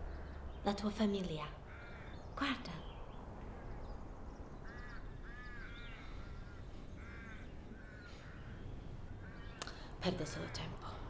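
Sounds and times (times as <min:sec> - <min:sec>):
birds cawing: 0:00.0 - 0:00.7, 0:01.5 - 0:11.0
low steady background hum: 0:00.0 - 0:11.0.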